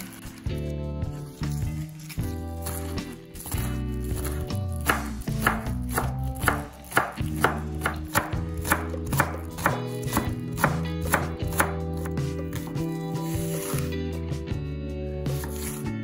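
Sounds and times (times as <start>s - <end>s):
knife slicing on cutting board: 1.4s - 13.9s, 15.3s - 16.0s.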